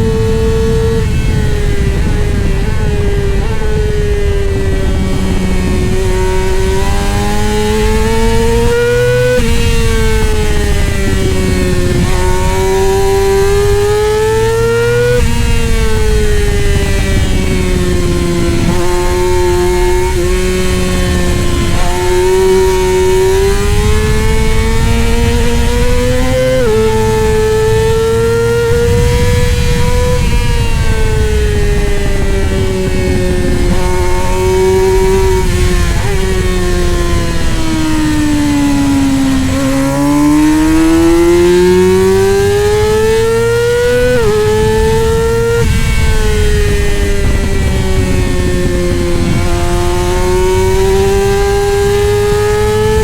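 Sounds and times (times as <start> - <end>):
superbike engine at high revs: 0.0 - 53.0.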